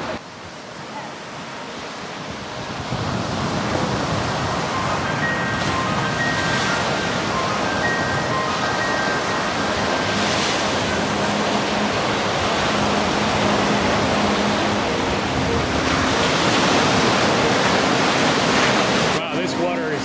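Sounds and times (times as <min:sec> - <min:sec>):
surf breaking on sandy beach: 0:01.9 - 0:20.0.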